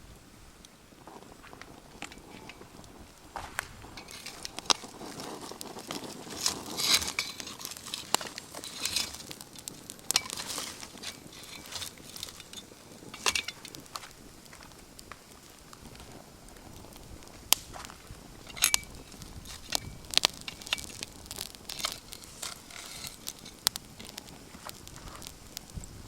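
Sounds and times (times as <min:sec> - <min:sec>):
campfire crackling and popping: 0:00.0 - 0:26.0
soft fire hiss: 0:00.0 - 0:26.0.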